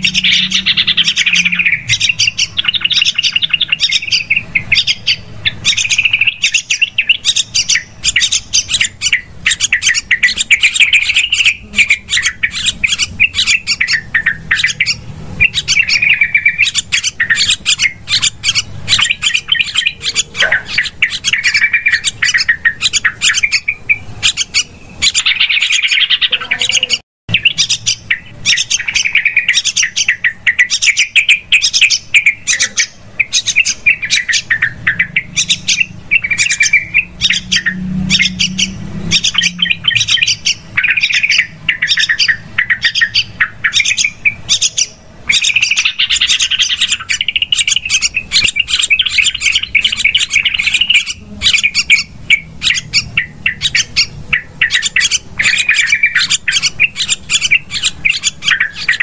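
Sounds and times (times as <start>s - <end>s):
bulbuls chattering: 0.0s - 59.0s.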